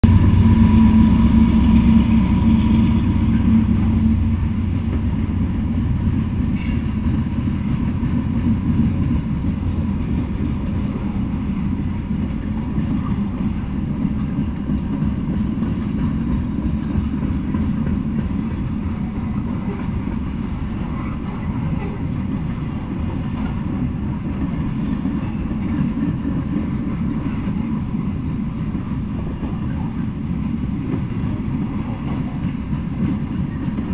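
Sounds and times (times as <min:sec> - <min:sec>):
freight cars rumbling on rails: 0:00.0 - 0:33.9
locomotive engine hum: 0:00.0 - 0:33.9.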